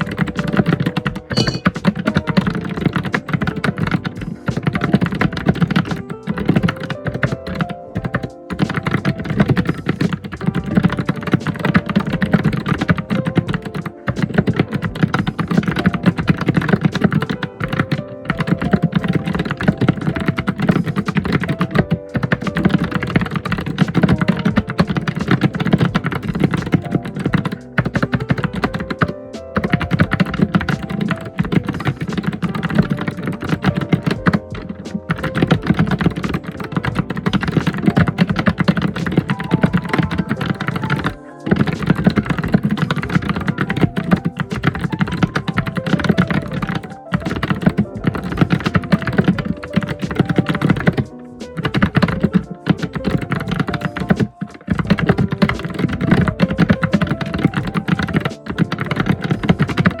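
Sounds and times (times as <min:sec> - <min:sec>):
fast keyboard typing: 0:00.0 - 1:00.0.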